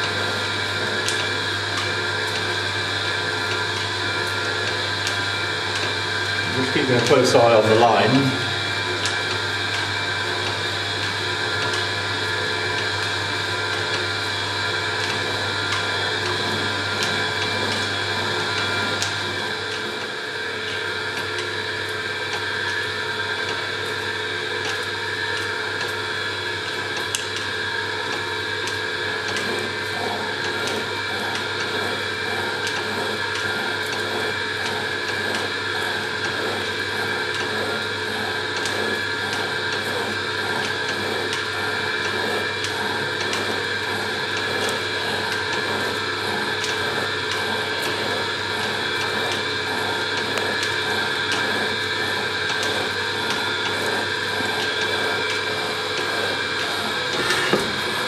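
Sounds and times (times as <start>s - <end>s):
belt drive running: 0.0s - 58.0s.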